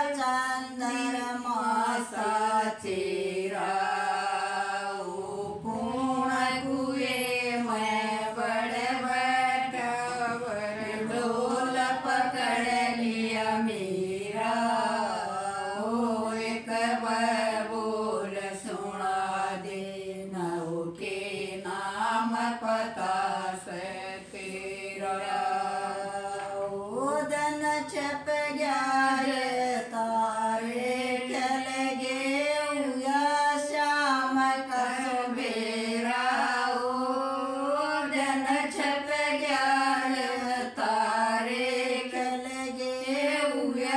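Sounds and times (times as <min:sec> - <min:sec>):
women singing folk song: 0:00.0 - 0:43.9.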